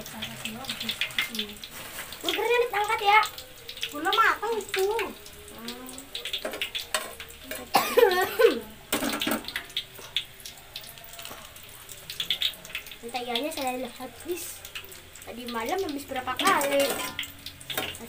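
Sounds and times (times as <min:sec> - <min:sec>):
buns sizzling on grill pan: 0:00.0 - 0:18.0.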